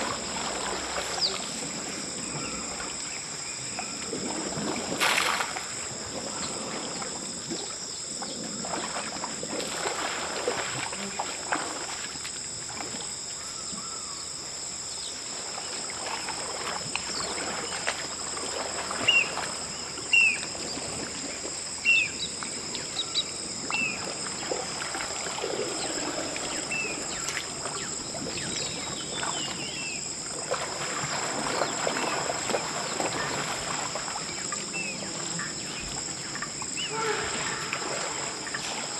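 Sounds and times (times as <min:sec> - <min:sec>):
high insect drone: 0:00.0 - 0:38.9
water splashing and sloshing: 0:00.0 - 0:38.9.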